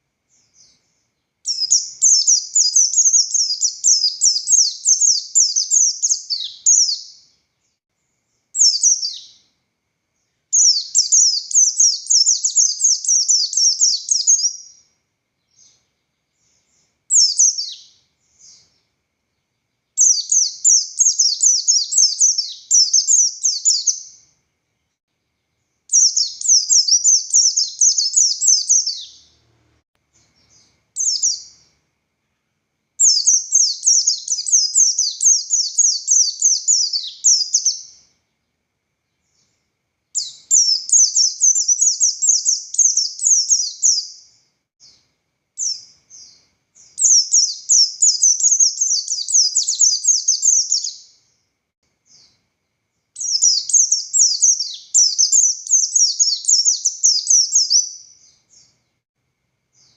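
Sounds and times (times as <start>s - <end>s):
sharp bird calls: 0.3s - 9.5s, 10.5s - 14.9s, 15.5s - 18.9s, 19.5s - 24.3s, 25.9s - 38.1s, 40.2s - 45.0s, 45.6s - 51.3s, 53.2s - 58.8s
bird singing rapid phrases: 0.3s - 9.6s, 10.2s - 31.8s, 33.0s - 38.2s, 40.2s - 45.0s, 45.6s - 51.4s, 52.1s - 52.4s, 53.2s - 58.9s.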